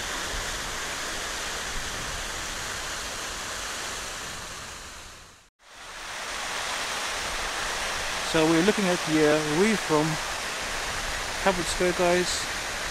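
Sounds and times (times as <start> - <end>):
fountain water spray hissing: 0.0 - 12.9.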